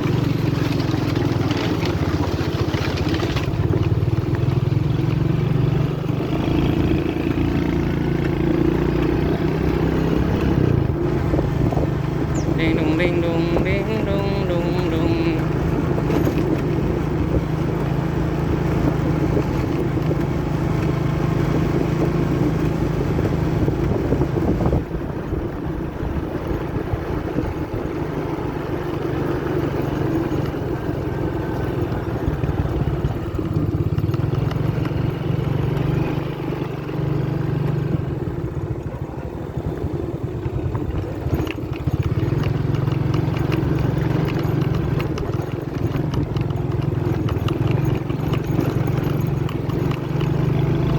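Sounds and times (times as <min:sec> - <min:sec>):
small motorcycle engine running: 0:00.0 - 0:50.9.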